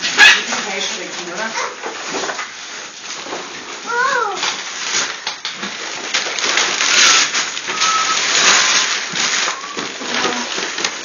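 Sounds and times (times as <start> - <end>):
wrapping paper tearing and crumpling: 0.0 - 11.0.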